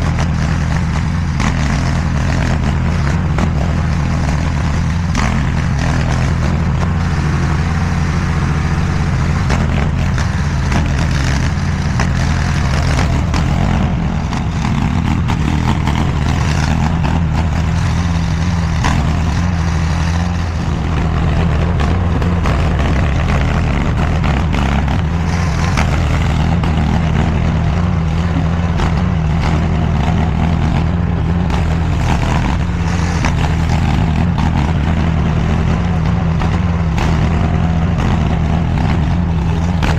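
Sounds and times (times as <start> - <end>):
mini skid steer engine running: 0.0 - 39.9.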